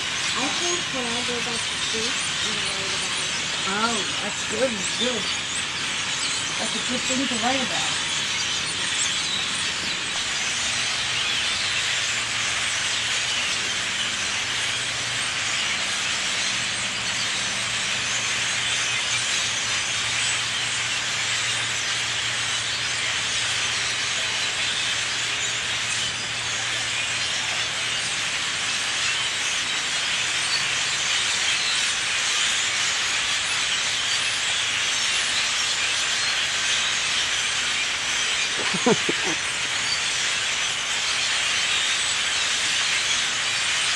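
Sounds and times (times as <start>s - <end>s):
flock of birds chattering: 0.0s - 43.9s.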